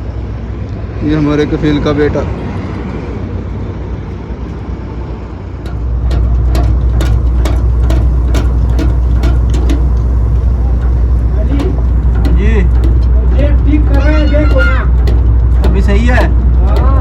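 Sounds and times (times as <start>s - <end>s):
heavy engine droning: 2.7s - 17.0s.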